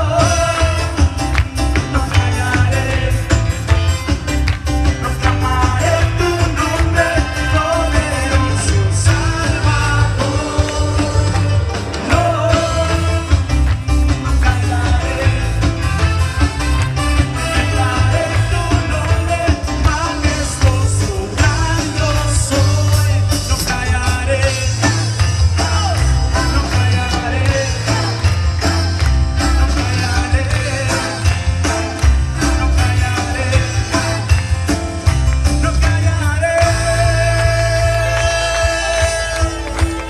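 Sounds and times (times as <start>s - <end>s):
person singing: 0.0s - 4.2s, 4.8s - 16.6s, 17.2s - 40.0s
bass: 0.0s - 40.0s
drums: 0.0s - 40.0s
live band playing latin song: 0.0s - 40.0s.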